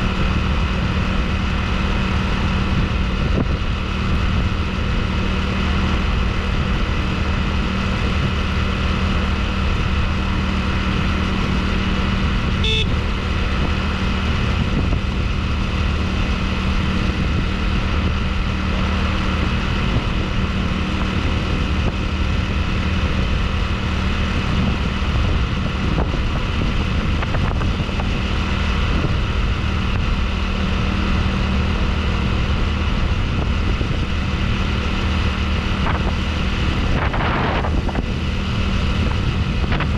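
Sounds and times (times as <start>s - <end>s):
motorbike engine running steadily: 0.0s - 39.9s.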